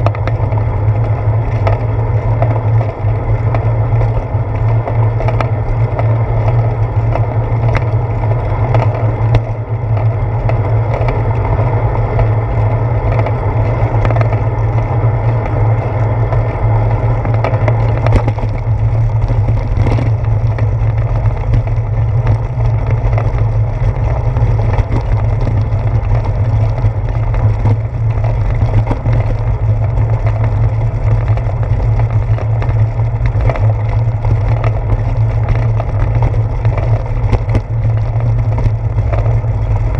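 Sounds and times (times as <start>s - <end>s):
bicycle wind and road rumble: 0.0s - 39.9s.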